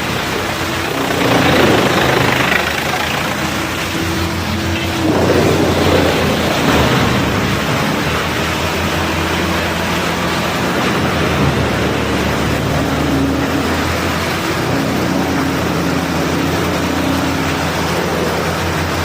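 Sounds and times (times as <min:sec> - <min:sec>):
sawdust crusher machine running: 0:00.0 - 0:19.0.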